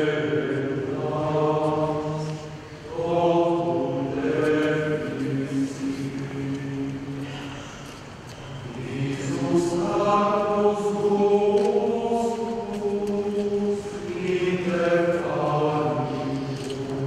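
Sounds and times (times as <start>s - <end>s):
male choir chanting: 0.0s - 7.6s, 8.6s - 17.0s.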